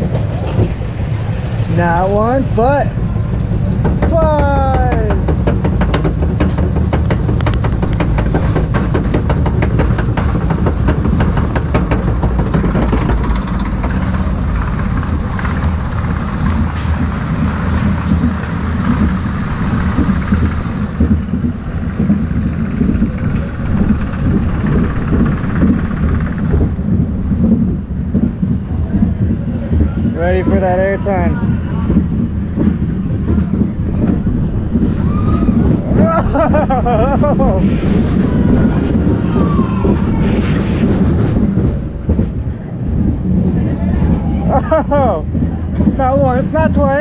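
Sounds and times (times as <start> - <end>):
roller coaster wheels rumbling on rails: 0.0 - 47.0.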